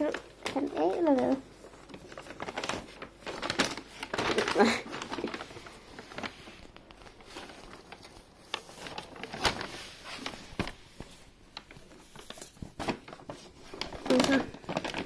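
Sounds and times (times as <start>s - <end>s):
paper bag rustling: 0.0s - 15.0s.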